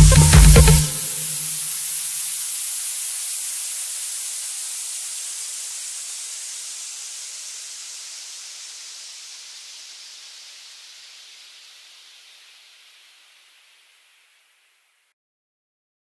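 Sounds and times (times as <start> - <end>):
white-noise sweep: 0.0 - 13.7.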